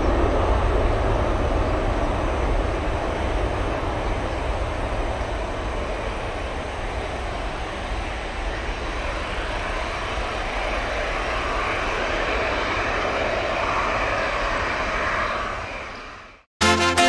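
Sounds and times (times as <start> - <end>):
jet airliner engines at takeoff: 0.0 - 17.0.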